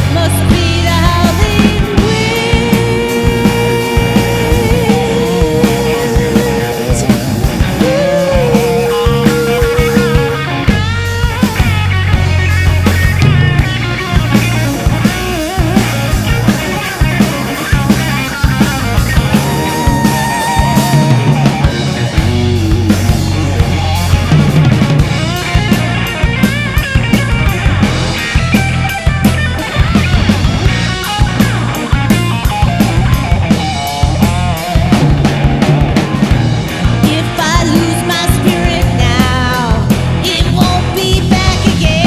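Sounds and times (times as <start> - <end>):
bass guitar: 0.0 - 42.0
drum kit: 0.0 - 42.0
lead guitar solo: 0.0 - 42.0.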